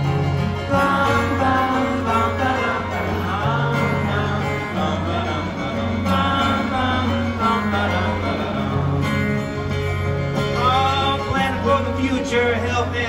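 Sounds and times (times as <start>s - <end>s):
acoustic guitar: 0.0s - 13.0s
banjo: 0.0s - 13.0s
men singing together: 0.0s - 13.0s.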